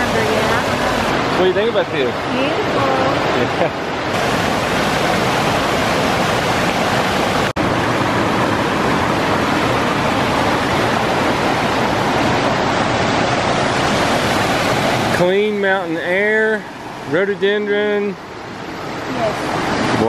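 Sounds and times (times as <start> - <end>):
rushing stream water: 0.0 - 20.0.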